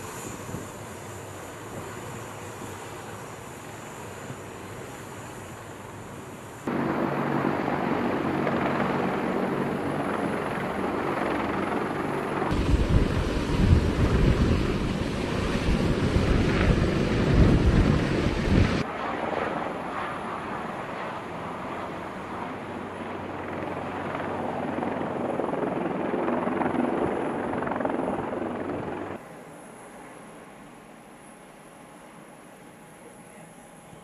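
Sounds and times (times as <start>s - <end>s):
helicopter turbine and rotor noise: 0.0s - 34.0s.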